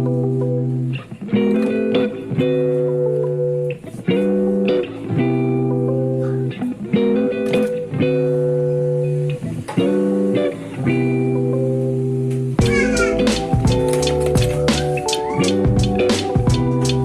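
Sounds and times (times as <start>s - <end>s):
guitar playing sustained chords: 0.0s - 17.0s.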